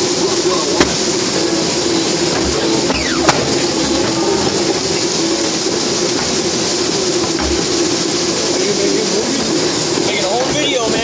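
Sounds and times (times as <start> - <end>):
paper cutter machine drone: 0.0 - 11.0.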